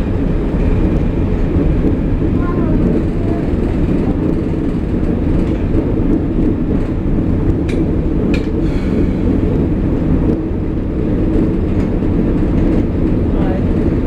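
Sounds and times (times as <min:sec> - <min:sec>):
railbus diesel engine drone: 0:00.0 - 0:14.0
wheels on rail: 0:00.0 - 0:14.0.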